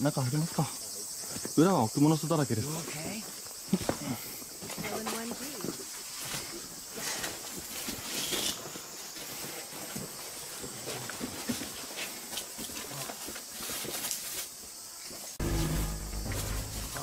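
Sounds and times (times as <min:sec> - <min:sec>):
faint insect chorus: 0:00.0 - 0:17.0.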